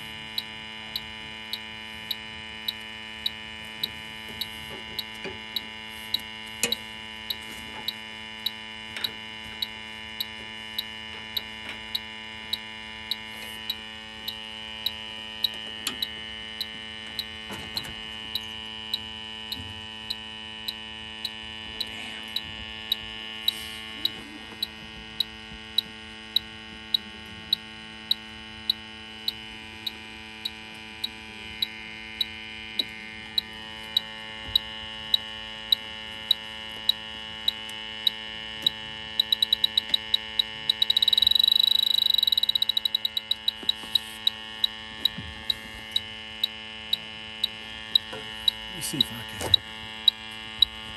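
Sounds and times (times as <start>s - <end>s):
leak detector ticking: 0.0s - 50.9s
steady hum: 0.0s - 50.9s.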